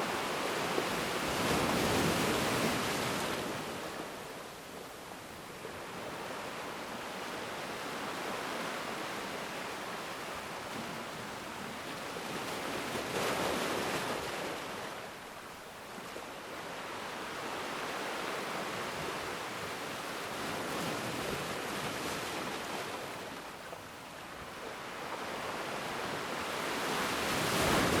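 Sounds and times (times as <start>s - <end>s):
sea waves breaking on shore: 0.0s - 28.0s.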